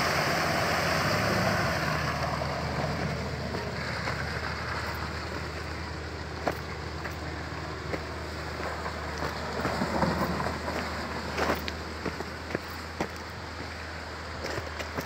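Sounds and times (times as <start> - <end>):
distant pickup truck engine: 0.0 - 15.0.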